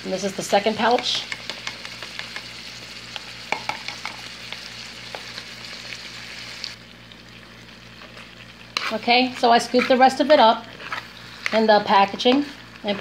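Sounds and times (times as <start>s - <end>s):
meat and onions sizzling in a pan: 0.0s - 13.0s.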